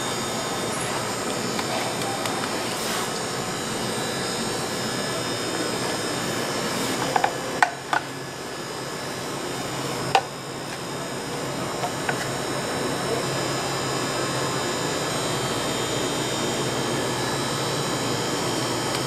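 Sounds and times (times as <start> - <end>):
kitchen machinery whirring hum: 0.0 - 19.0.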